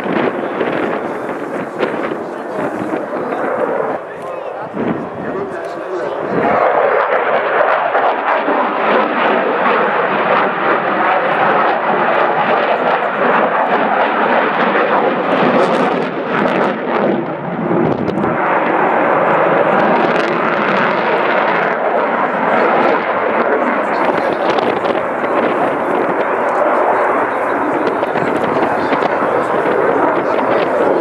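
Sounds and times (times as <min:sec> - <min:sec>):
fighter jet engine roar: 0:00.0 - 0:31.0.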